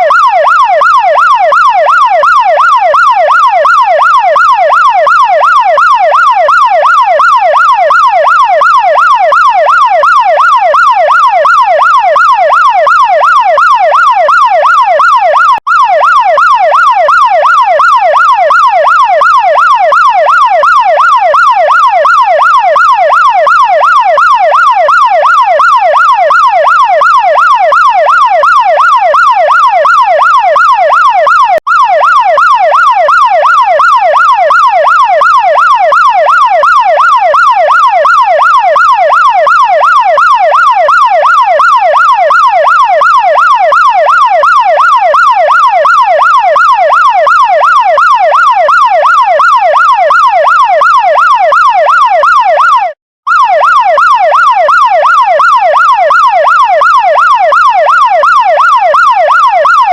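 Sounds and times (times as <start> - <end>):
fire truck siren yelping: 0.0 - 59.9.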